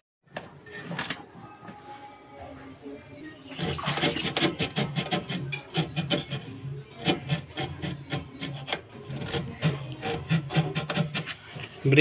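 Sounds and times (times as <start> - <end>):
metal rubbing and scraping: 0.6 - 12.0.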